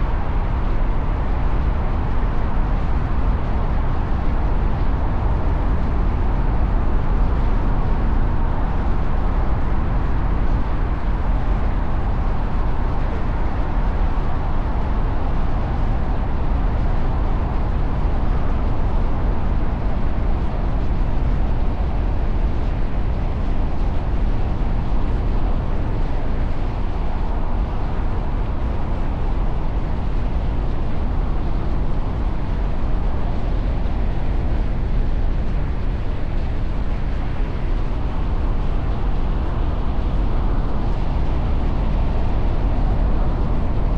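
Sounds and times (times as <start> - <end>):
city traffic rumble: 0.0 - 43.9.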